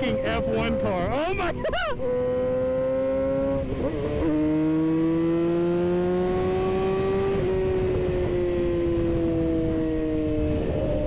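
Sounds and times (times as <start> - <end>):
motorcycle engine revving high: 0.0 - 11.0.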